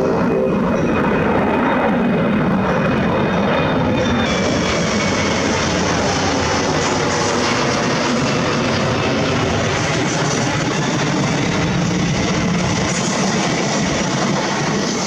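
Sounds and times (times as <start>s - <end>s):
airliner engine rush: 0.0s - 15.0s
wind buffeting microphone: 0.0s - 15.0s.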